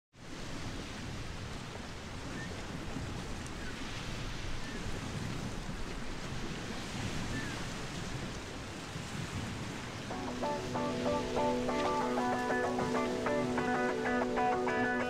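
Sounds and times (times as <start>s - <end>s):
ocean waves breaking: 0.2s - 15.0s.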